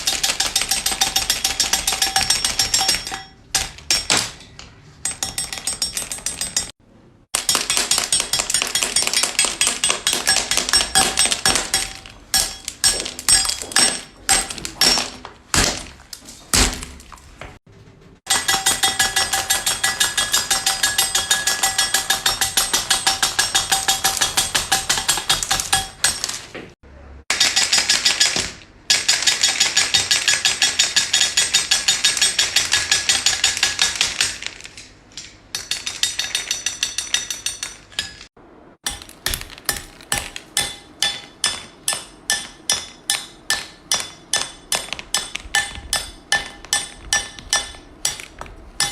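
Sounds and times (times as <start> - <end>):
knife chopping hard candy: 0.0 - 6.7, 7.4 - 17.2, 18.3 - 26.6, 27.3 - 34.8, 38.8 - 48.9.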